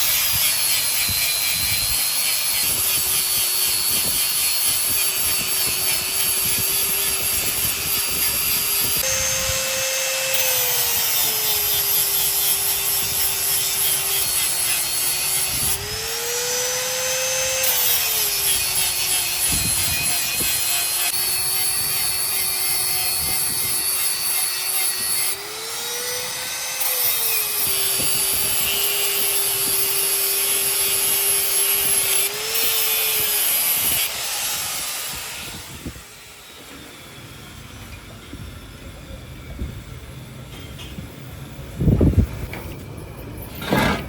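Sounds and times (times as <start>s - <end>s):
electric power tool running: 0.0s - 37.2s.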